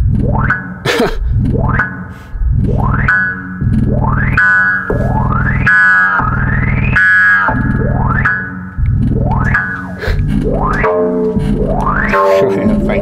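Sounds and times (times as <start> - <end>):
low buzzing drone: 0.0 - 13.0
synthesizer rising pitch sweep: 2.6 - 13.0.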